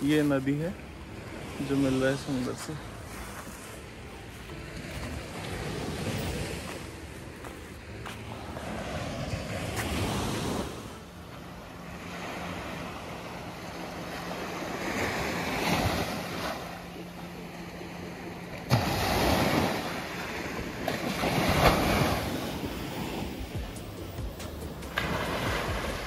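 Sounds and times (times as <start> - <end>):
sea waves breaking: 0.0 - 26.0.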